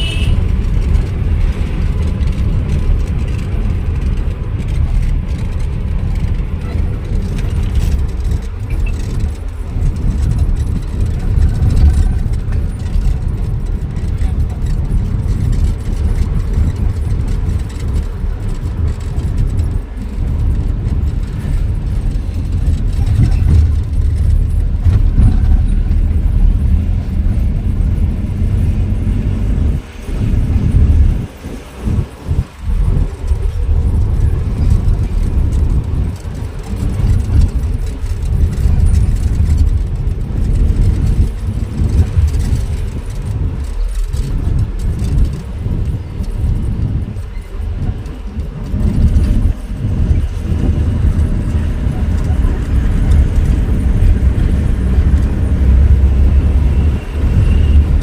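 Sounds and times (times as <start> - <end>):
vehicle driving on road: 0.0 - 58.0.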